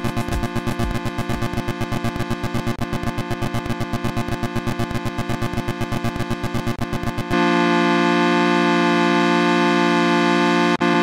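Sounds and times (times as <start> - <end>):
pulsing synth chords: 0.0 - 11.0.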